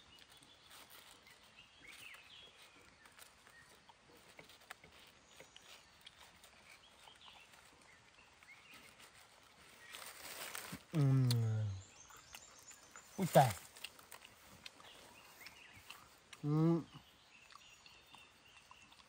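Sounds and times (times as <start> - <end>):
soft bird chirps: 0.0 - 19.0.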